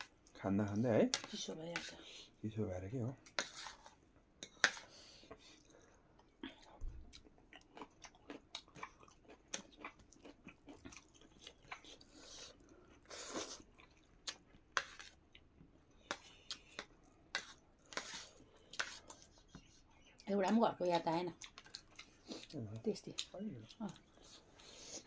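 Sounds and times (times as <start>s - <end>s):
people chewing: 3.2s - 25.0s.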